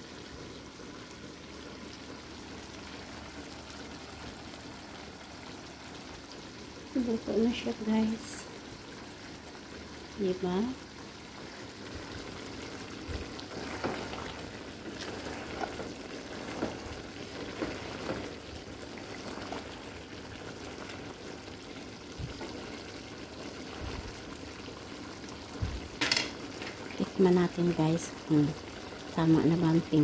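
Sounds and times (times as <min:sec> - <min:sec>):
sauce bubbling at a boil: 0:00.0 - 0:30.0.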